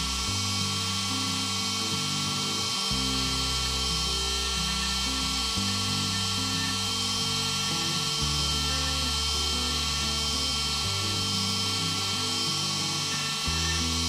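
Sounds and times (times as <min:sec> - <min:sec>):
low shifting tones: 0:00.0 - 0:14.0
router spindle whining: 0:00.0 - 0:14.0.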